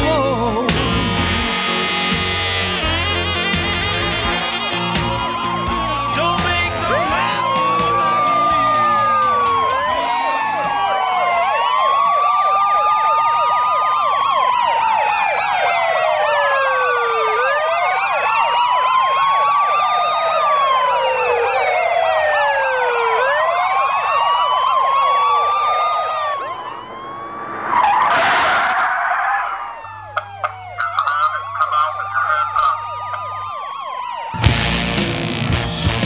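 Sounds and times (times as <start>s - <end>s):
wailing sirens: 0.0s - 35.1s.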